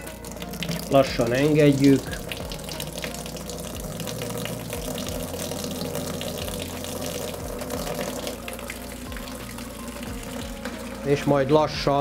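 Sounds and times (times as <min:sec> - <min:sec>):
pump humming: 0:00.0 - 0:12.0
wine running through hose: 0:00.0 - 0:12.0.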